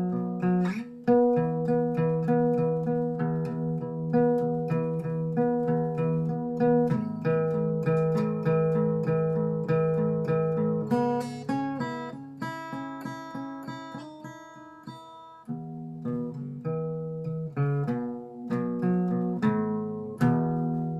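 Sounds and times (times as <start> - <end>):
acoustic guitar playing: 0.0 - 20.9.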